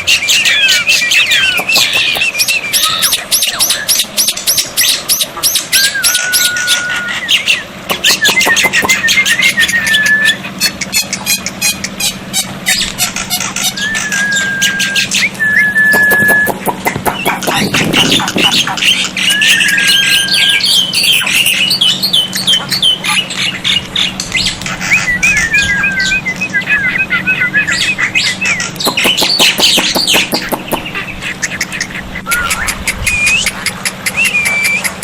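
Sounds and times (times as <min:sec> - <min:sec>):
myna bird calling: 0:00.0 - 0:35.0.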